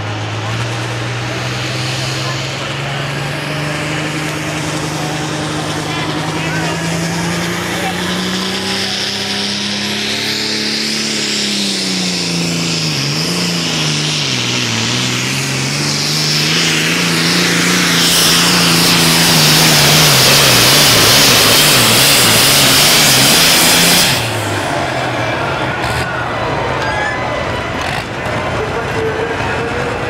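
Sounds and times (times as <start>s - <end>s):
high turbo whine: 0.0s - 30.0s
tractor diesel engine at full power: 0.0s - 30.0s.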